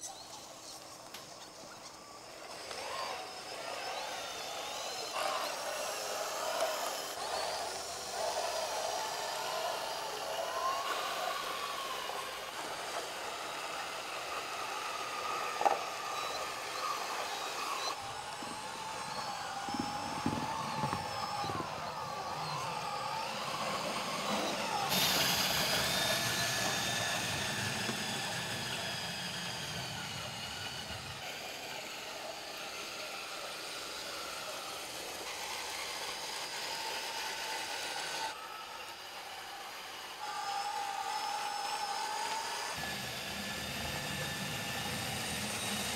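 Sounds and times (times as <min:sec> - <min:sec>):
toy tractor motor whine: 0:00.0 - 0:45.9.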